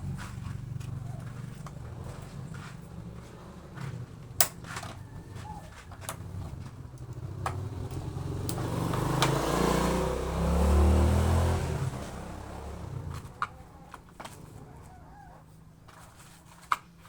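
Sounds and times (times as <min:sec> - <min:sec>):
vehicle driving past: 0:00.0 - 0:15.5.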